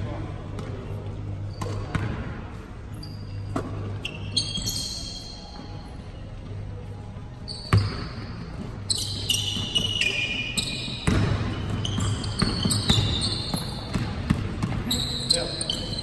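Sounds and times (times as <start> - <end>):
sneakers squeaking: 0.4 - 16.0.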